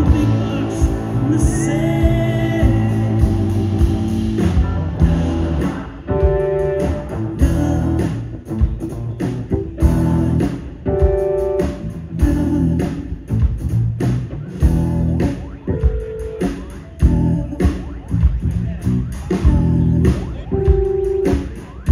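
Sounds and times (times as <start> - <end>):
electric guitars: 0.0 - 18.7
bass guitar: 0.0 - 21.9
drum kit: 0.0 - 21.9.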